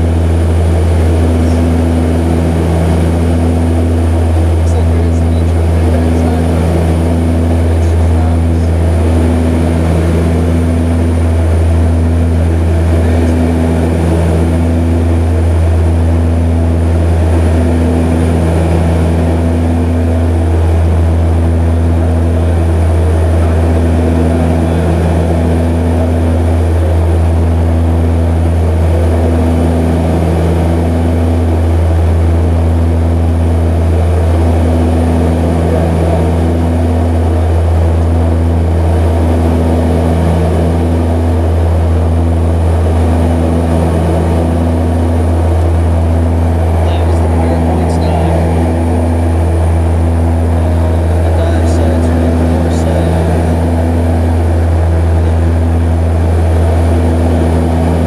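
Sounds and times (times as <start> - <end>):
propeller aircraft engine droning: 0.0 - 58.0.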